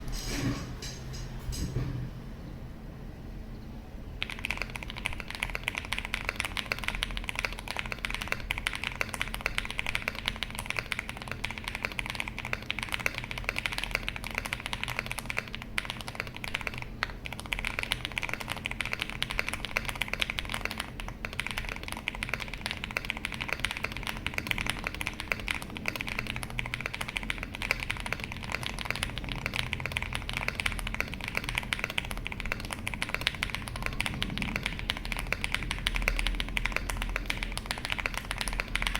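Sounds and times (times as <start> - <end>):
fast typing on mechanical keyboard: 4.2 - 38.9.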